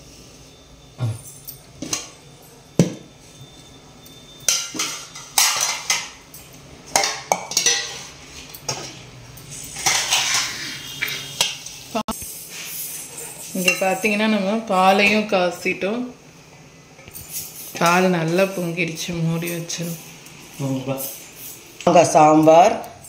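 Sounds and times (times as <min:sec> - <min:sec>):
steel bowls and pots clinking: 0:01.0 - 0:15.6, 0:17.0 - 0:23.0.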